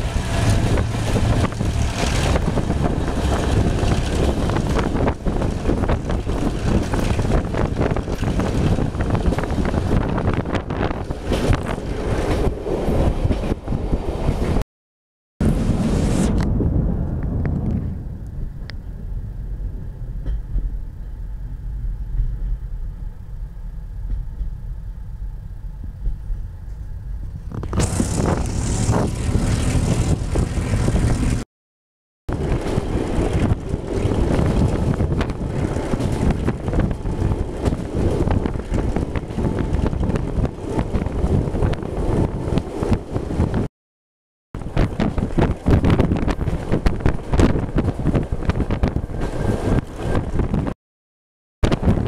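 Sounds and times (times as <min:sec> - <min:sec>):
rattling track noise: 0:00.0 - 0:14.6, 0:15.4 - 0:31.4, 0:32.3 - 0:43.6
rushing wind: 0:00.0 - 0:14.6, 0:15.4 - 0:31.5, 0:32.3 - 0:43.7, 0:44.6 - 0:50.8, 0:51.6 - 0:52.0
train low rumble: 0:00.0 - 0:14.6, 0:15.4 - 0:31.4, 0:32.3 - 0:43.7, 0:44.6 - 0:50.7.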